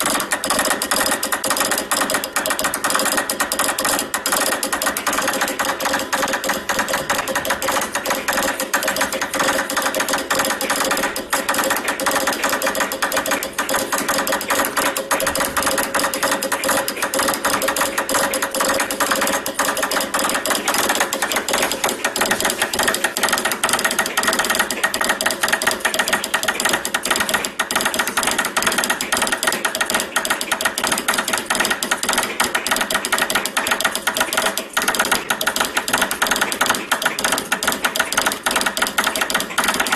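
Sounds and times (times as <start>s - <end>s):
telegraph key clicking: 0.0s - 39.9s.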